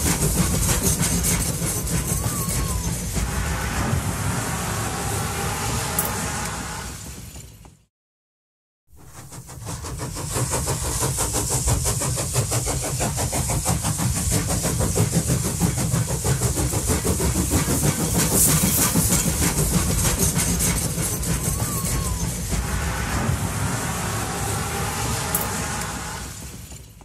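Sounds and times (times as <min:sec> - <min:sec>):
train clattering: 0:00.0 - 0:07.8, 0:09.0 - 0:27.0.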